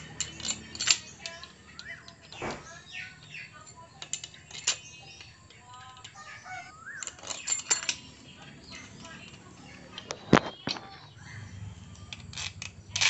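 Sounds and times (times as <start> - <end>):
birds chirping: 0.0 - 13.0
metallic clinks of tools: 0.0 - 13.0.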